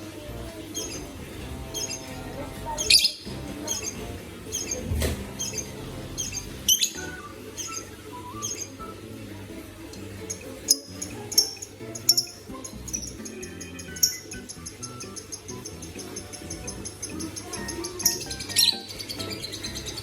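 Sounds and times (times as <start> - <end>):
young bird chirping: 0.7 - 9.1, 10.2 - 20.0.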